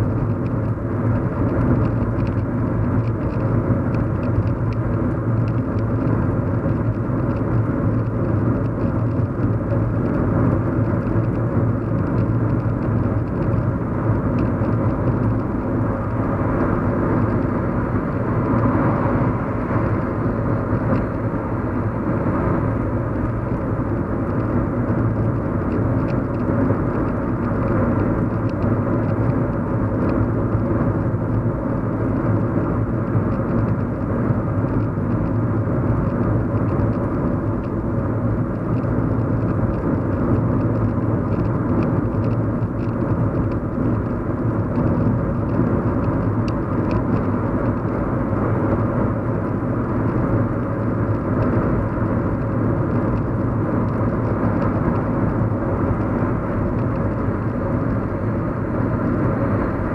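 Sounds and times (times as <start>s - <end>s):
car cabin road hum: 0.0s - 59.9s.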